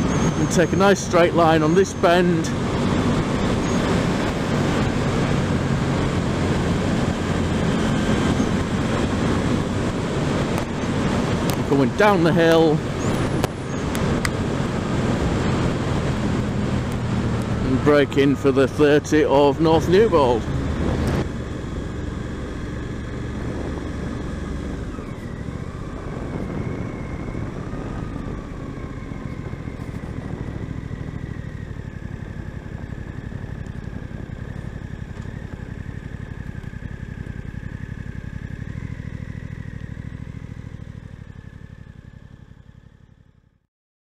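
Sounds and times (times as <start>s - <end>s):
motorcycle engine running: 0.0s - 43.6s.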